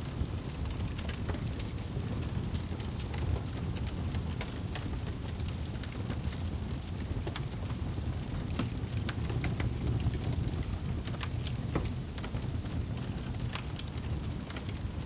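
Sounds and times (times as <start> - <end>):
sharp crackles and pops: 0.0 - 15.0
wood fire burning: 0.0 - 15.0.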